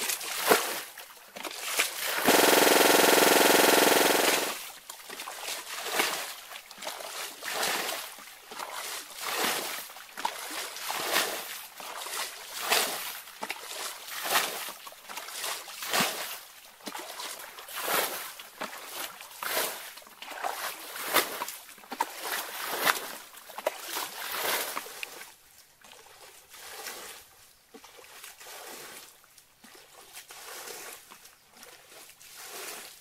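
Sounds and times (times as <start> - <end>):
muddy water splashing: 0.0 - 33.0.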